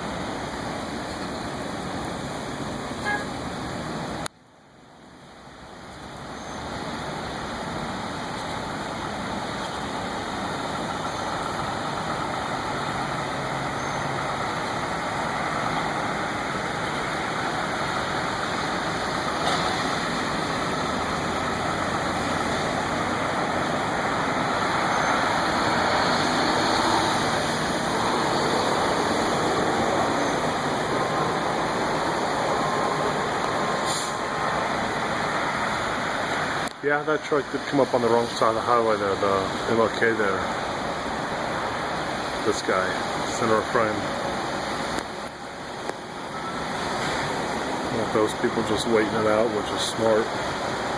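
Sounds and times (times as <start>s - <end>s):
steady rushing hiss: 0.0s - 50.9s
truck engine running: 7.5s - 50.9s.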